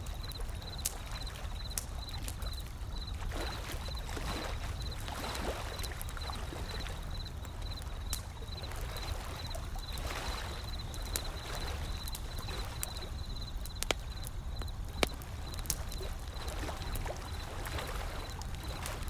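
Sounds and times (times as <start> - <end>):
wood fire crackling: 0.0 - 3.9, 4.8 - 19.0
ocean waves: 3.0 - 19.0.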